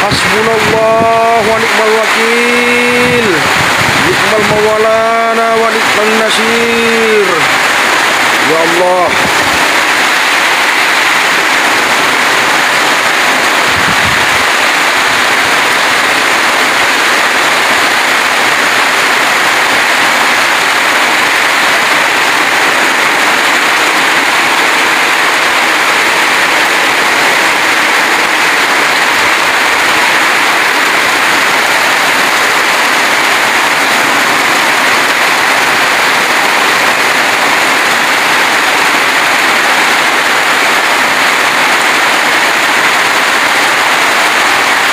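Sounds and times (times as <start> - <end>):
heavy rain on a metal roof: 0.0 - 44.9
strong wind: 0.0 - 44.9.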